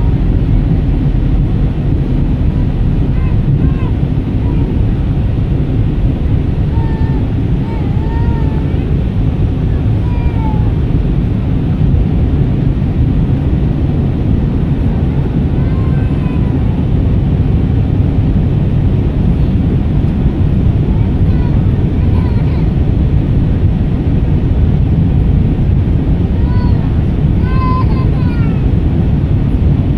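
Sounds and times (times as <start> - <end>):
airliner cabin engine rush: 0.0 - 29.9.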